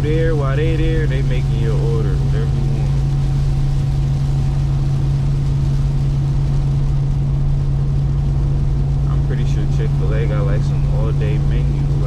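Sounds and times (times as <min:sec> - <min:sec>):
road rumble: 0:00.0 - 0:12.0
truck engine droning: 0:00.0 - 0:12.0.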